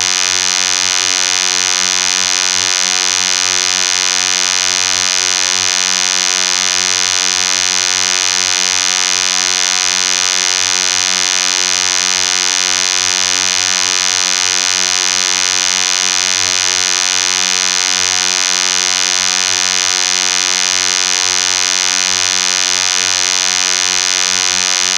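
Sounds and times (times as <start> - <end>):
synthetic buzzing drone: 0.0 - 24.9.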